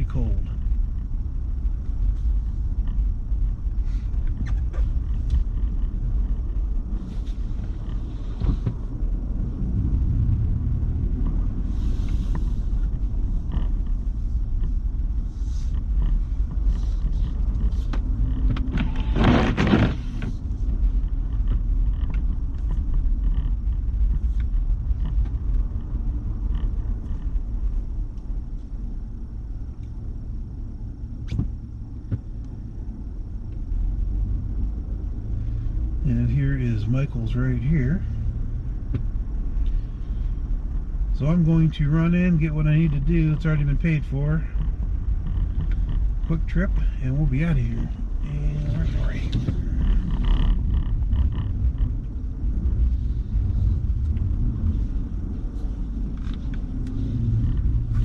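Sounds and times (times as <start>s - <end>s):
car rumble inside cabin: 0.0s - 58.0s.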